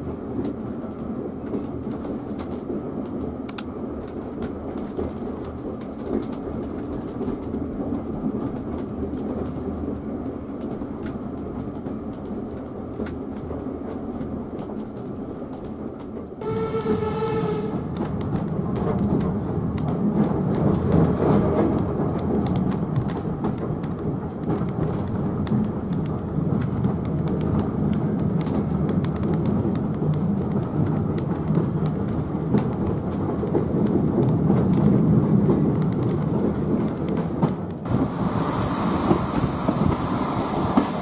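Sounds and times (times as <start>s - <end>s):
train carriage rumbling on track: 0.0s - 41.0s.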